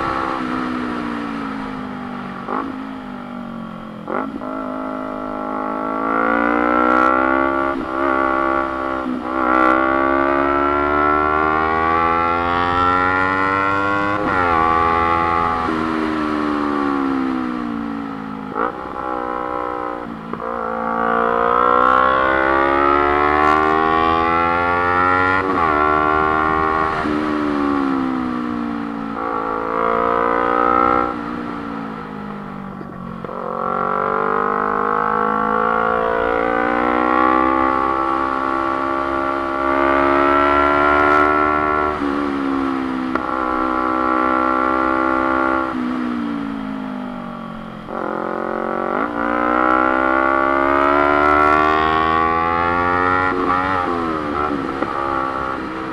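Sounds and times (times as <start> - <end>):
low rumble of wind and road: 0.0 - 55.9
motorcycle engine revving and shifting: 0.0 - 55.9.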